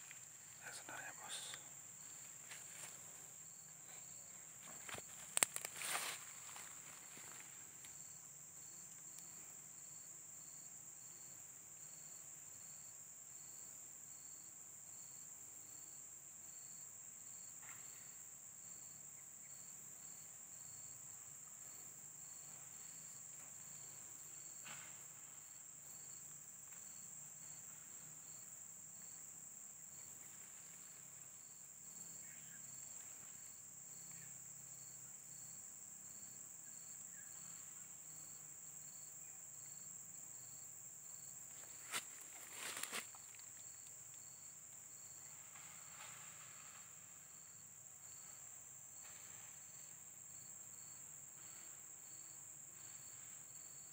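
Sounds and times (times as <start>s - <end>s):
insect chirping: 0.0s - 53.9s.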